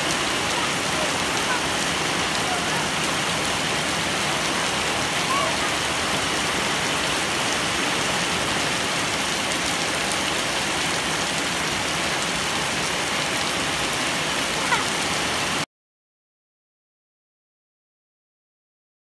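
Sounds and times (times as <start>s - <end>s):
heavy rain on gravel and concrete: 0.0s - 15.7s.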